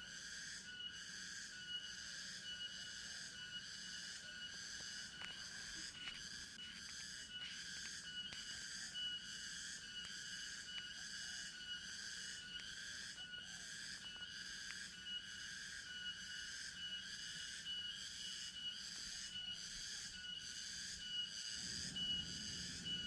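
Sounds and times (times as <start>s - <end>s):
forest insects pulsing chorus: 0.0s - 23.0s
thin high whistle-like tone: 0.0s - 23.0s.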